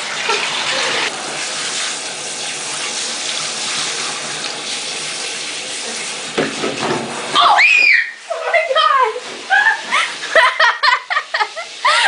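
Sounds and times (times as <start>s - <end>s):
tap water running into bathtub: 0.0s - 12.0s.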